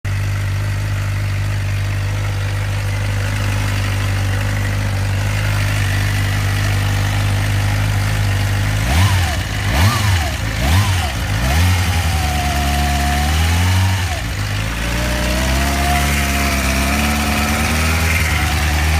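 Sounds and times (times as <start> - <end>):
motorcycle engine idling with whine: 0.1 - 18.9
motorcycle engine revving: 0.1 - 18.9.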